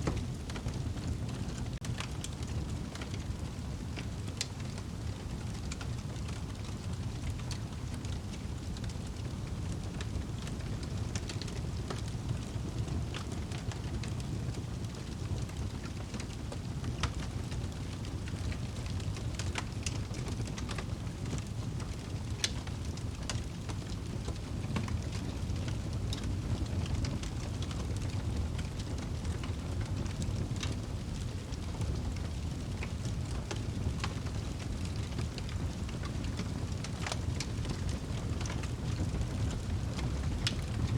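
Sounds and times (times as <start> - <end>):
fire burning: 0.0 - 40.9
fire crackling and popping: 0.0 - 40.9.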